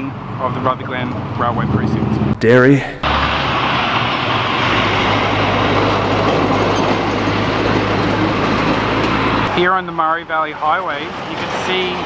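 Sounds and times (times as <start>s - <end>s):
tanker truck passing: 0.0s - 12.0s.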